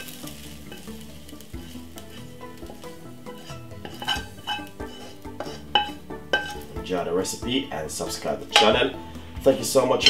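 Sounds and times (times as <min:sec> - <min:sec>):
spatula scraping wok: 0:00.0 - 0:07.4, 0:08.0 - 0:10.0.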